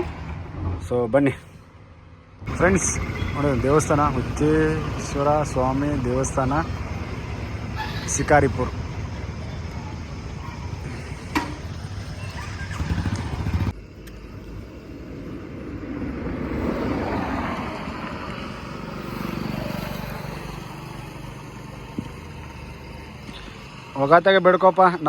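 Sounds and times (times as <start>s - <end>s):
low vehicle engine rumble: 0.0s - 24.4s
passing vehicles road noise: 0.0s - 25.0s.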